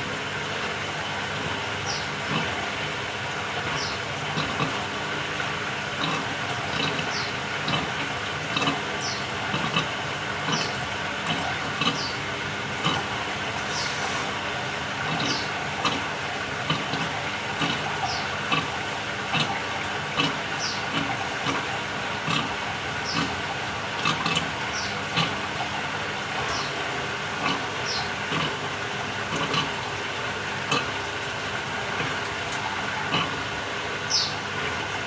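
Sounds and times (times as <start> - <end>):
washing machine swishing water: 0.0 - 35.0.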